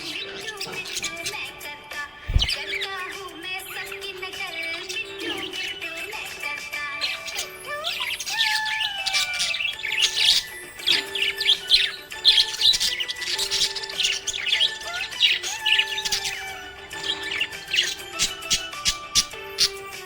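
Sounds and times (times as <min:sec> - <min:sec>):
background music with held notes: 0:00.0 - 0:20.0
budgerigars chirping: 0:00.0 - 0:20.0.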